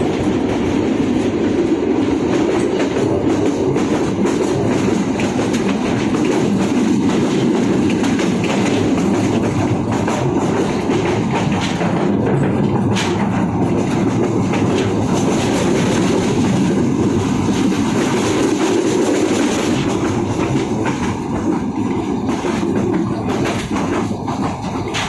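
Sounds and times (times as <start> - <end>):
train rumble: 0.0 - 25.0
wheels clicking over rail joints: 0.0 - 25.0.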